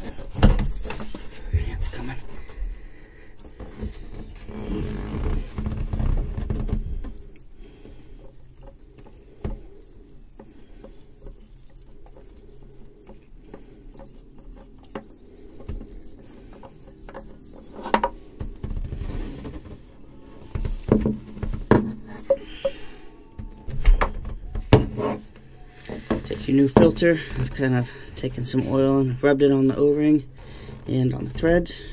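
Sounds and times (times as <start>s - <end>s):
hand scraping filter canister: 0.0s - 31.9s.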